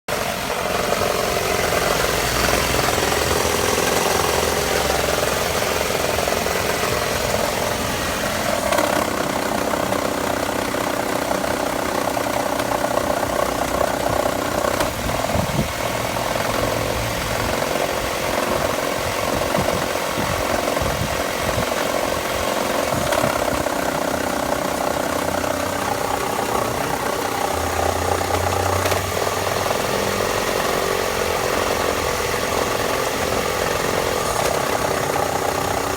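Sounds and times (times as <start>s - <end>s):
car engine idling: 0.1s - 35.9s
engine rattling tick: 0.1s - 35.9s.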